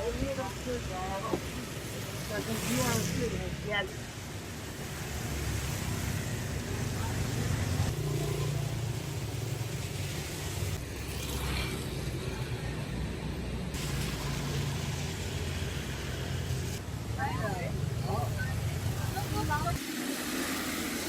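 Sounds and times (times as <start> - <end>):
vehicle engines running: 0.0 - 19.8
constant hiss: 0.0 - 21.0.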